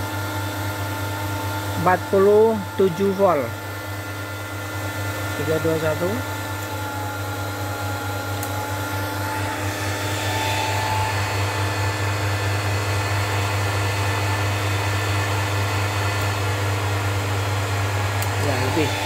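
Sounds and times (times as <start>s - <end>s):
cooling fans running: 0.0s - 19.0s.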